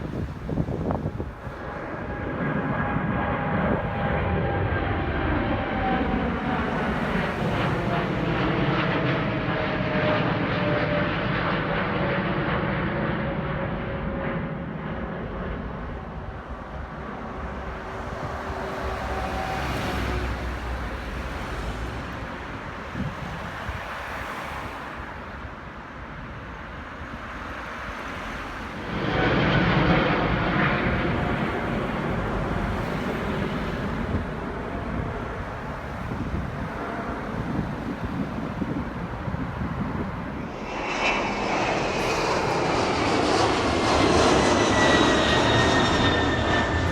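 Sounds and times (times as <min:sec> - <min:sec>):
jet airliner engines whining: 0:00.0 - 0:24.0, 0:25.0 - 0:46.9
loud airliner takeoff: 0:00.0 - 0:46.9.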